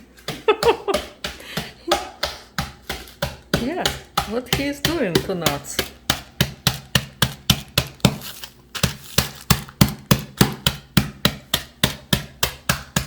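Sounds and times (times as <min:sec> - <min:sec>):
nuts being pounded: 0:00.0 - 0:13.0.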